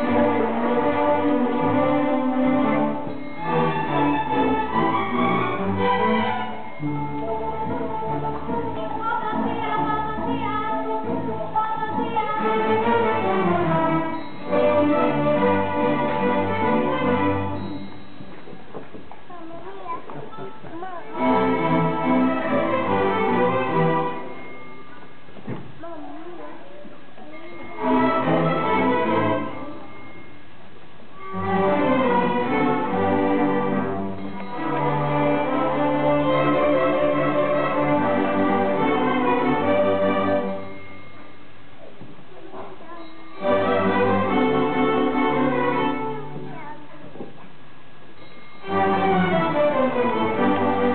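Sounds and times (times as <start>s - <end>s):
string orchestra bowed notes: 0.0s - 18.7s, 19.5s - 30.5s, 31.2s - 41.5s, 42.4s - 47.3s, 48.2s - 50.9s.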